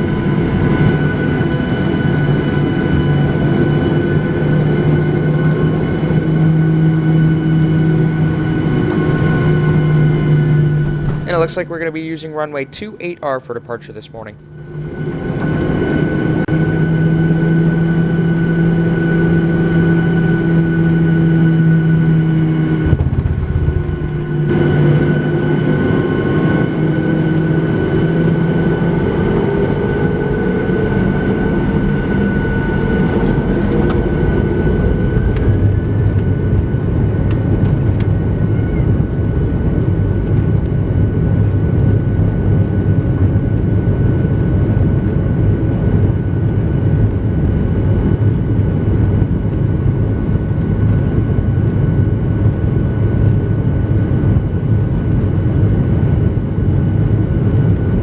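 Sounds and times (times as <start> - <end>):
engine and rolling noise rush: 0.0 - 58.0
jet engine cabin hum: 0.0 - 58.0.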